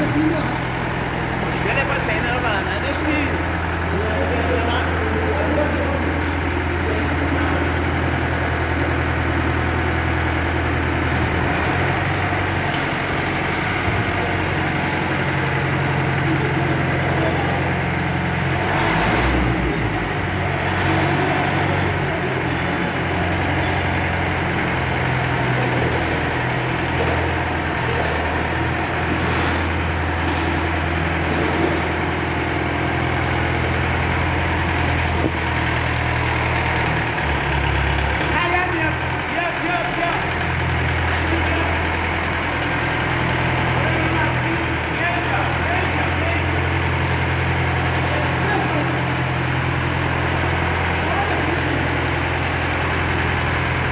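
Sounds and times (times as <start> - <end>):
heavy vehicle engine humming: 0.0 - 53.9.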